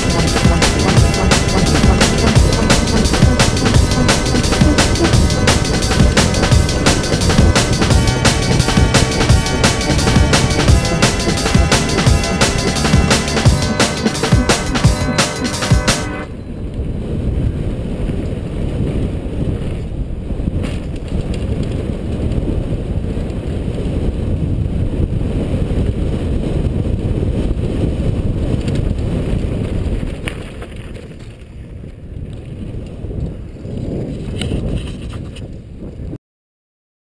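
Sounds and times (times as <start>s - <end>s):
wind buffeting microphone: 0.0s - 12.8s, 16.2s - 36.2s
bike tyre roar and rattle: 0.0s - 12.9s, 16.7s - 36.0s.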